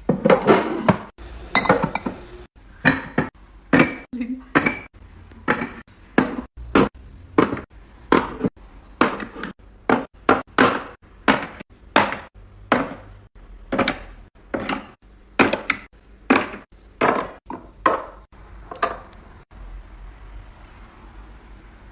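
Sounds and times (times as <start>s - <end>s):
dishes knocking and clinking: 0.0s - 19.2s.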